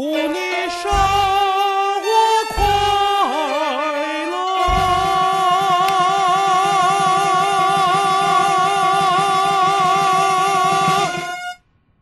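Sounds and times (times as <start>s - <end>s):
person singing high note with vibrato: 0.0s - 11.6s
backing track with steady beat: 0.5s - 11.6s.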